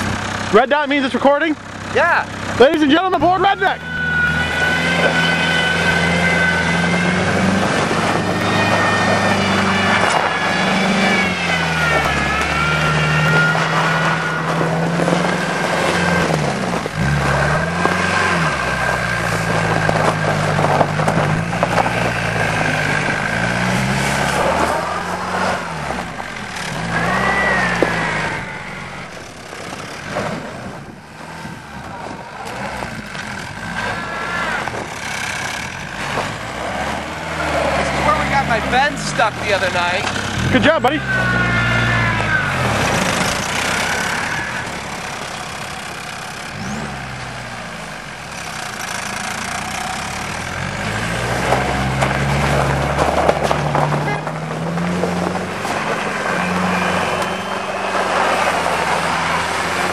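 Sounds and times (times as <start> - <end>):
diesel car engine revving: 0.0 - 59.9.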